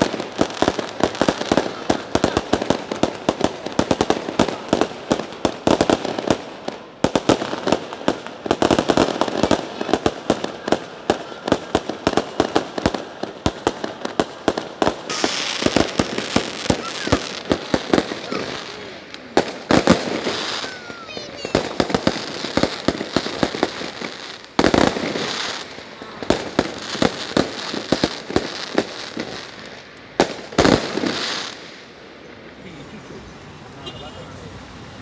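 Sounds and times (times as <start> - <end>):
fireworks bangs and crackles: 0.0 - 34.1.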